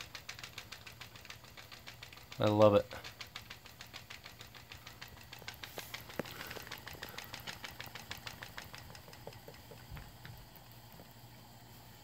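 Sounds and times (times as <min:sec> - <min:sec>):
steam engine chugging: 0:00.0 - 0:10.8.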